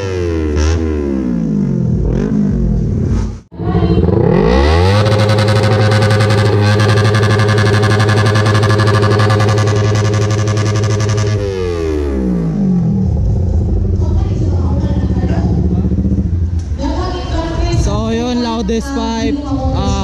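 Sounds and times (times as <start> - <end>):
motorcycle engine revving: 0.0 - 18.6.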